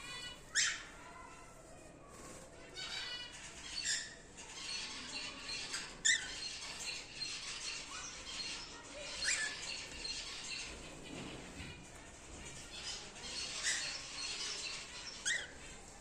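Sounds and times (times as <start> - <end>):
cockatiels chirping and chattering: 0.0 - 16.0.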